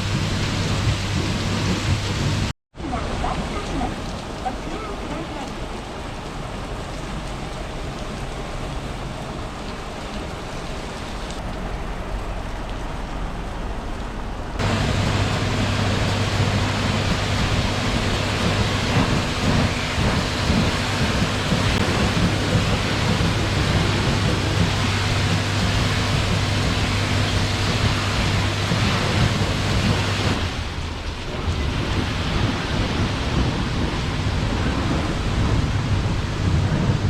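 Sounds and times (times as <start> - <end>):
water spraying over truck: 0.0 - 37.0
low machine hum: 6.2 - 36.6.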